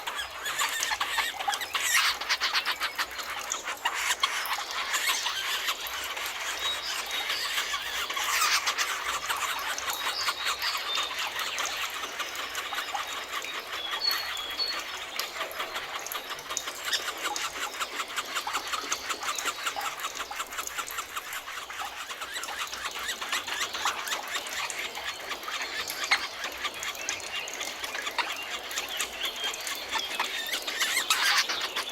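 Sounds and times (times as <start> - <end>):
forest birds chirping: 0.0 - 31.9.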